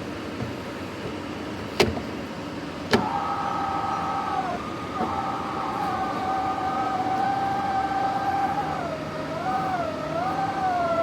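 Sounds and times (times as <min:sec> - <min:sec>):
air conditioner fan whistling: 0:00.0 - 0:11.0.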